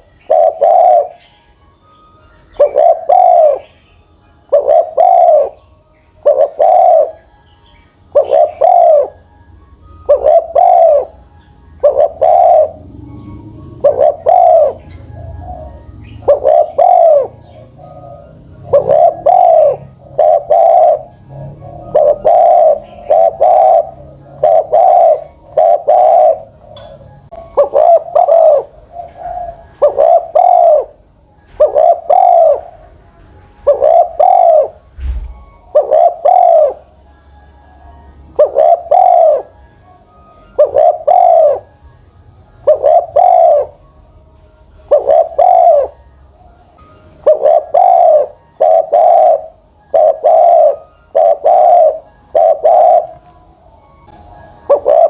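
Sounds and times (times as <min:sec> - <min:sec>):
dove cooing: 0:00.0 - 0:01.6, 0:02.5 - 0:09.4, 0:10.0 - 0:44.0, 0:44.8 - 0:46.4, 0:47.2 - 0:55.0.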